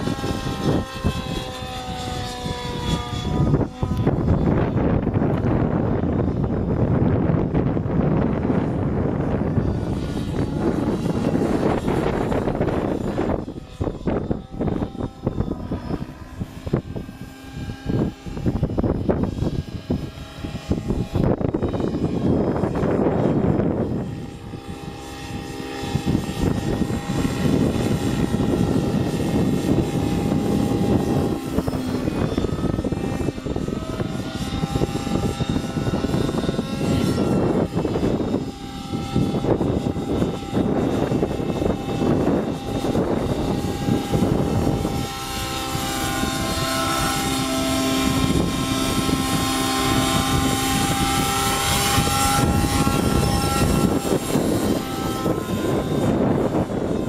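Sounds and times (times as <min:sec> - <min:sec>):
model helicopter engine: 0:00.0 - 0:57.0
rotor blades spinning: 0:00.0 - 0:57.0.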